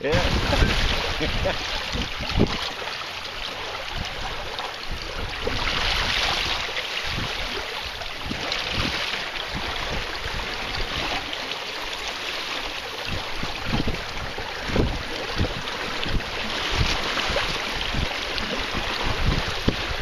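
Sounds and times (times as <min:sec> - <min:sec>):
wind buffeting microphone: 0:00.0 - 0:11.4, 0:12.7 - 0:20.0
water rushing along a hull: 0:00.0 - 0:20.0.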